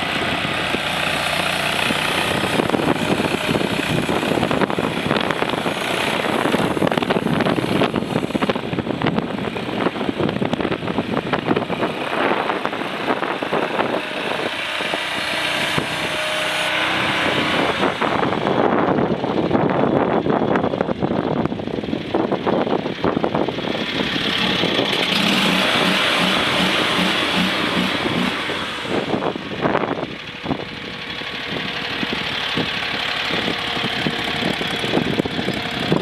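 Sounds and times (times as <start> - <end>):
skid steer engine clattering: 0.0 - 36.0.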